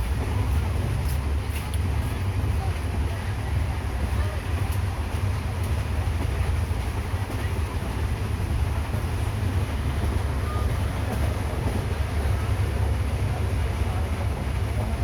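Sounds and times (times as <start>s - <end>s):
passenger train rumbling on track: 0.0s - 15.0s.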